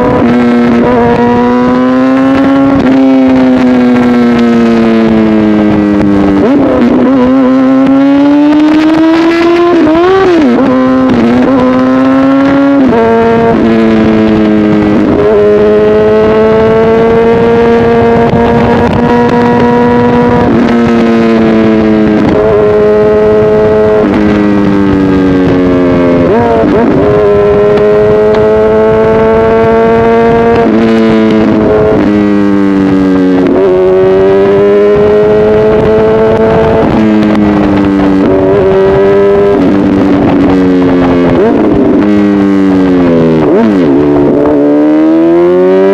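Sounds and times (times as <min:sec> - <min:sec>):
motorcycle engine accelerating through gears: 0:00.0 - 0:45.9.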